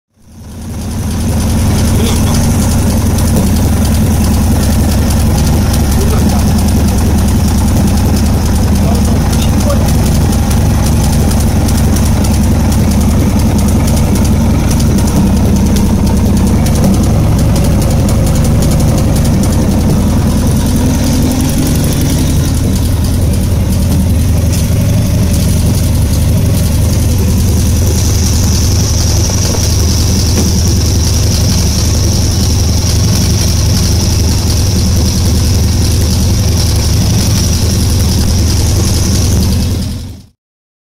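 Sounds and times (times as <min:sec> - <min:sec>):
motorcycle engine idling: 0:00.1 - 0:40.3.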